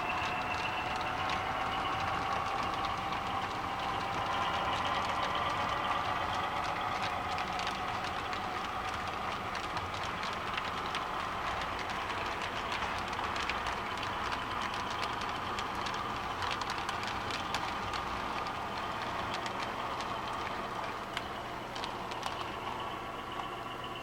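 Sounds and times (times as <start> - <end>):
model train motor whine: 0.0 - 24.0
wheels clicking over rail joints: 0.0 - 24.0.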